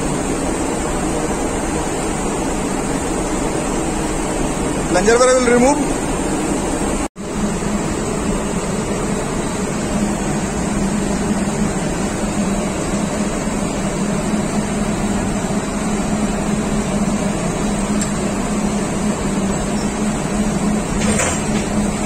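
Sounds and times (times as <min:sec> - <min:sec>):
machinery drone with low hum: 0:00.0 - 0:22.0.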